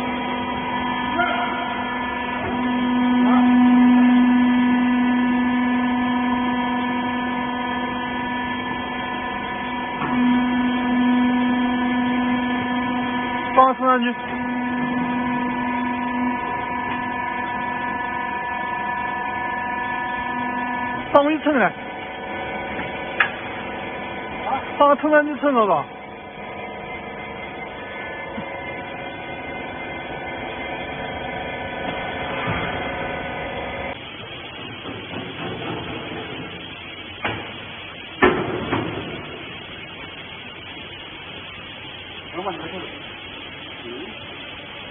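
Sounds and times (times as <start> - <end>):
hydraulic pump motor humming: 0.0 - 44.9.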